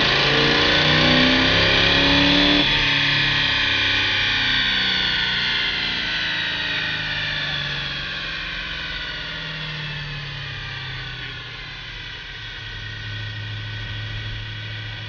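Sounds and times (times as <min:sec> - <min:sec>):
engine idling hum: 0:00.0 - 0:15.0
high whine falling in pitch: 0:00.0 - 0:15.0.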